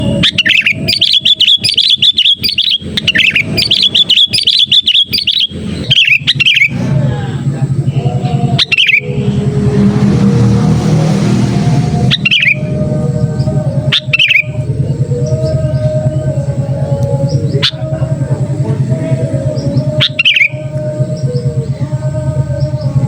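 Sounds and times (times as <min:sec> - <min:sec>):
bird chirping: 0:00.0 - 0:11.4, 0:12.0 - 0:23.0
low steady hum: 0:00.0 - 0:23.0.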